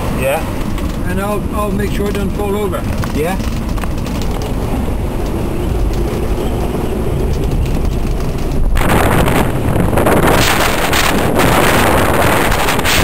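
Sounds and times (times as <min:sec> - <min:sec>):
wind buffeting microphone: 0:00.0 - 0:13.0
yacht rumbling through rough sea: 0:00.0 - 0:13.0.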